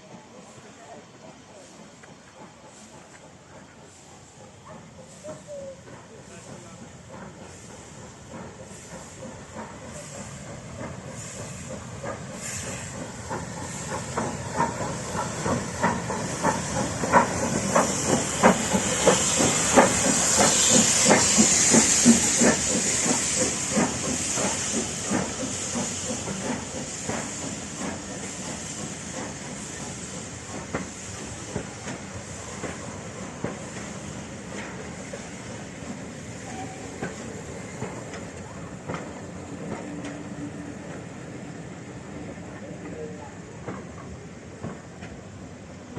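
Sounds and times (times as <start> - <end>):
steam hissing: 0.0 - 45.9.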